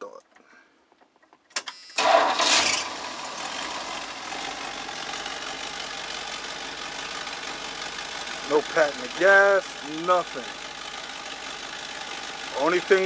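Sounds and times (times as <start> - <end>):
car engine starting and idling: 1.6 - 13.0.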